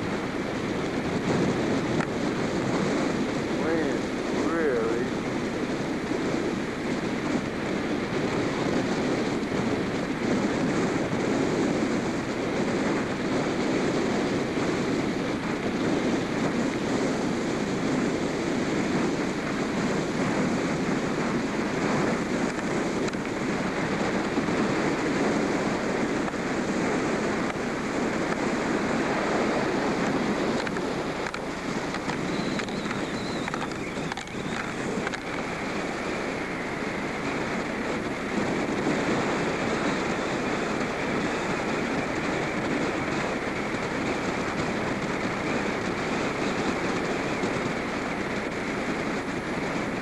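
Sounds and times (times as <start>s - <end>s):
wind blowing across microphone: 0.0s - 50.0s.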